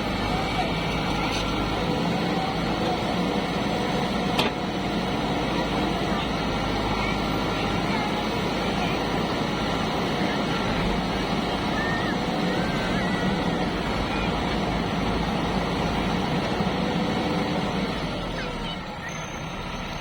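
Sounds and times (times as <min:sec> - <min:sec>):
diesel machinery engine running: 0:00.0 - 0:20.0.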